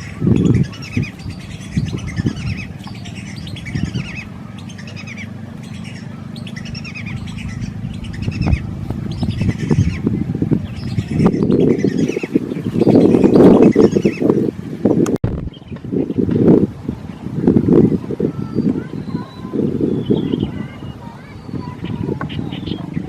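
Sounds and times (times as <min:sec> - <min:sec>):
low rumble: 0:00.0 - 0:18.8
birds chirping: 0:00.0 - 0:23.0.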